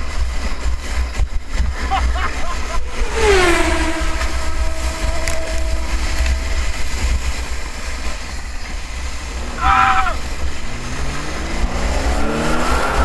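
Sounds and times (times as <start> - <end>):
sleds scraping on icy snow: 0.0 - 13.0
wind rumble on microphone: 0.0 - 13.0.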